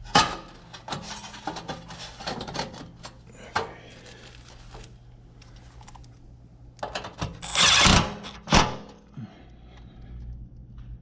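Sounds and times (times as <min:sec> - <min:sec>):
faint low hum: 0:00.1 - 0:11.0.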